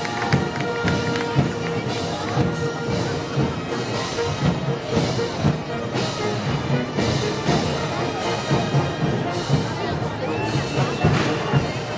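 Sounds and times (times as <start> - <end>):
festival band music: 0.0 - 11.9.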